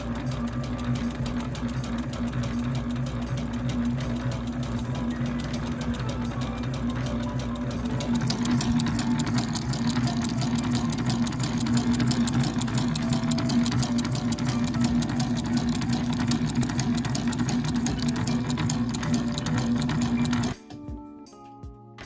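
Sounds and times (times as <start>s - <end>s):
sewing machine running: 0.0s - 20.6s.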